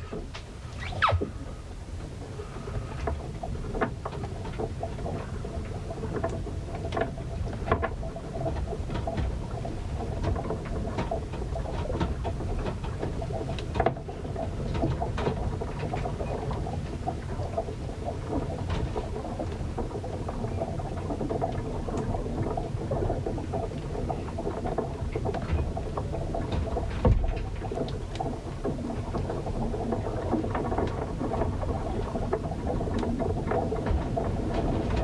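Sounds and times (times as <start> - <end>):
ship creaking: 0.0 - 13.3, 13.9 - 35.0
wind and water against hull: 0.0 - 35.0.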